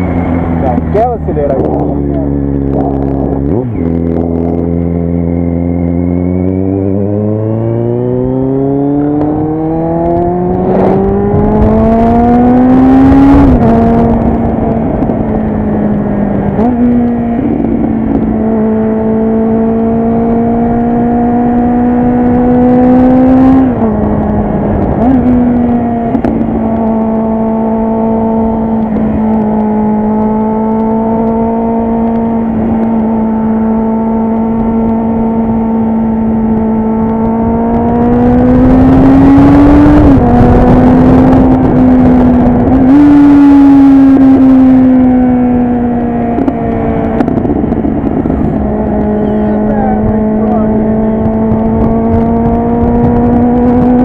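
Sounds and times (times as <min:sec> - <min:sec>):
motorcycle engine revving under throttle: 0:00.0 - 0:54.0.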